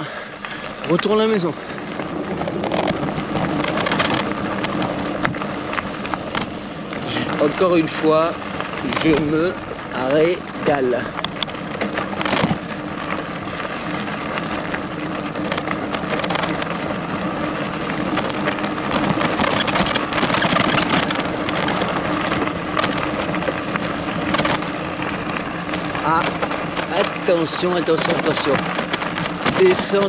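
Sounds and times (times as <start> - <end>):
bicycle tyres on stony track: 0.0 - 30.0
bike rattling and knocking: 0.0 - 30.0.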